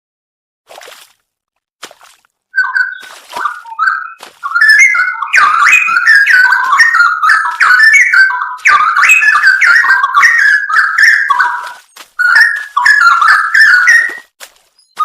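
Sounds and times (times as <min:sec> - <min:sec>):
bird singing whistled song: 0:02.6 - 0:15.0.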